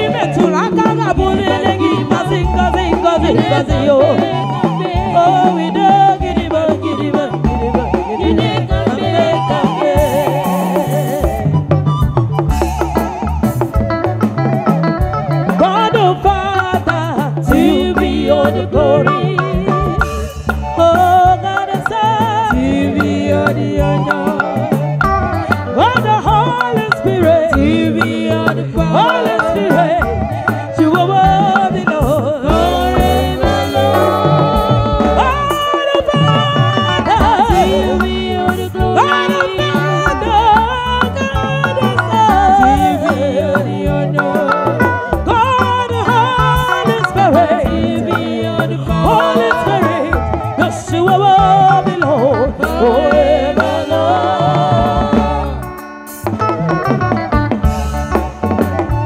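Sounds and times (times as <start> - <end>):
women singing gospel: 0.0 - 11.7, 14.9 - 56.1
bass line: 0.0 - 59.0
drum kit: 0.0 - 59.0.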